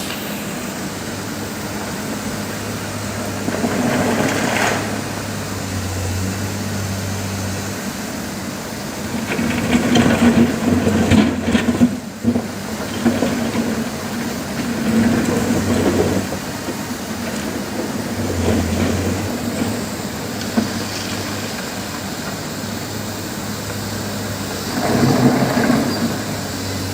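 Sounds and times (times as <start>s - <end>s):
excavator diesel engine humming: 0.0s - 26.9s.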